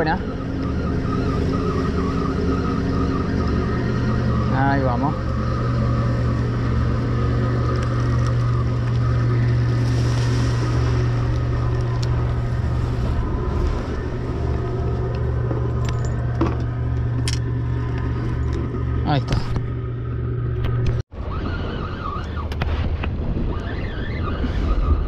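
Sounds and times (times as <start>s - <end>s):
boat engine humming: 0.0s - 22.5s.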